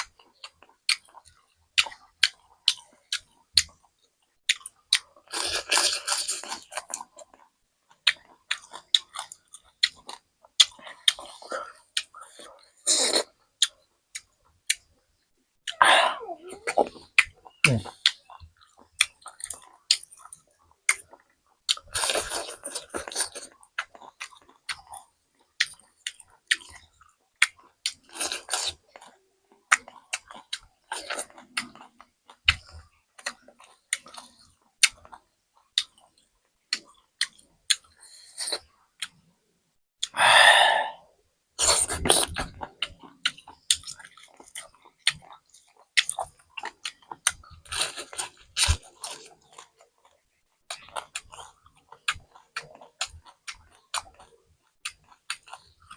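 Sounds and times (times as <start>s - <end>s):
person chewing food: 0.0s - 15.0s, 15.7s - 39.3s, 40.0s - 41.0s, 41.6s - 55.9s.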